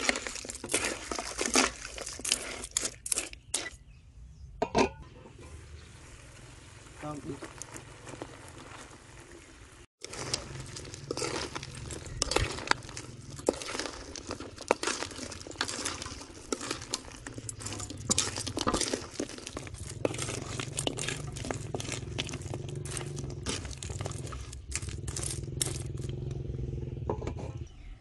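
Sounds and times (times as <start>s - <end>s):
food frying crackle: 0.0s - 3.3s, 5.4s - 26.3s.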